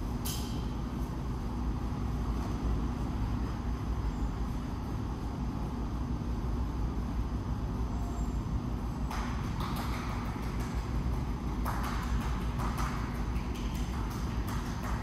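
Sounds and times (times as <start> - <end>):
low hum of indoor hall: 0.0 - 15.0.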